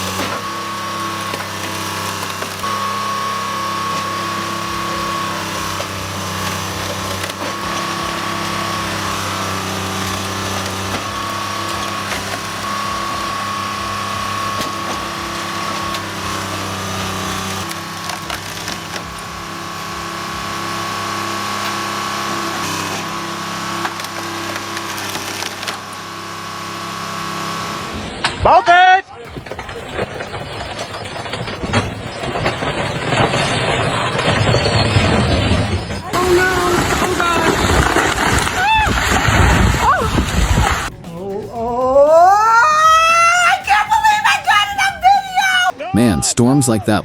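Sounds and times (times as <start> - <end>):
wood cracking and splintering: 0.0 - 27.3, 29.3 - 40.9
diesel engine droning: 0.0 - 47.0
high steady whine: 0.0 - 47.0.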